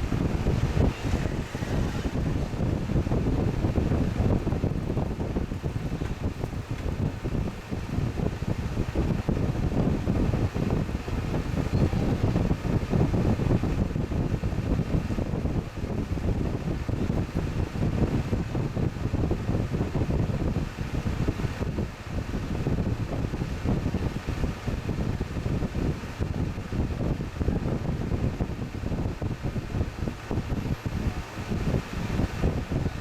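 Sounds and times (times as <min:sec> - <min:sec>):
air conditioner fan rushing: 0:00.0 - 0:33.0.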